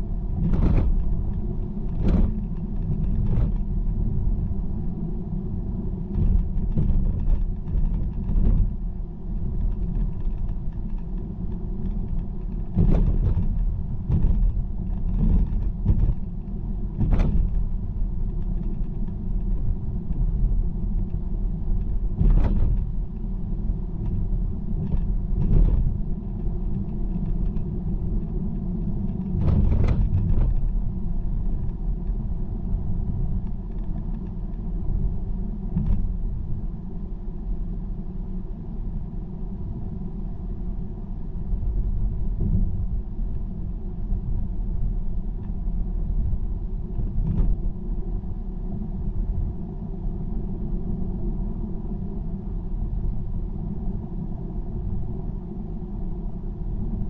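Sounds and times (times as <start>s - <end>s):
car road and tyre noise: 0.0s - 57.0s.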